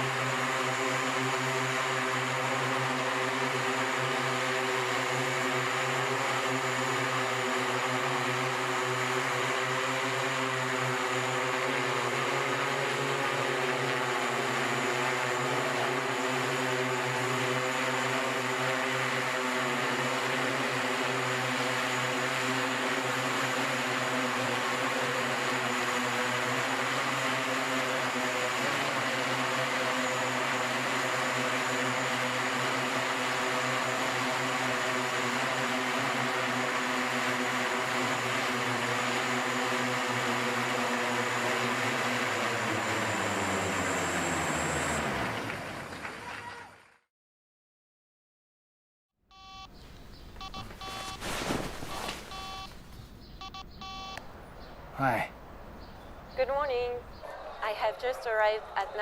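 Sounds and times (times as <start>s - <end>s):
propellers droning: 0.0s - 46.3s, 49.6s - 59.0s.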